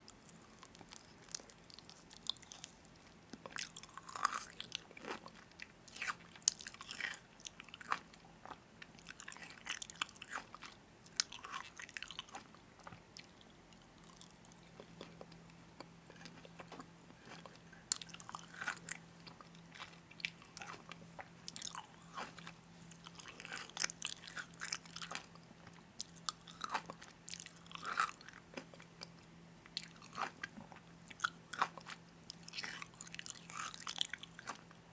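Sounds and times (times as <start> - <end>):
crunchy food being chewed: 0.0 - 34.9
faint steady hum: 0.0 - 34.9.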